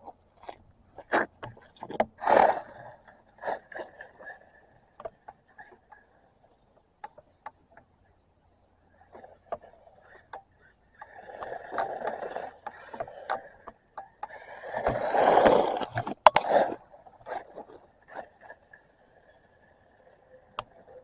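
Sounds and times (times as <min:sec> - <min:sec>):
toy car wheels rolling and scraping: 0:01.0 - 0:06.2, 0:09.0 - 0:21.0.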